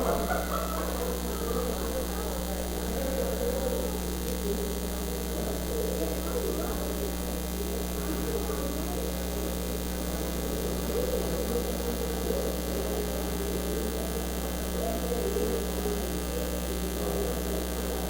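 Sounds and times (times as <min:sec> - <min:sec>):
electrical mains hum: 0:00.0 - 0:18.0
faint muffled murmur: 0:00.0 - 0:18.0.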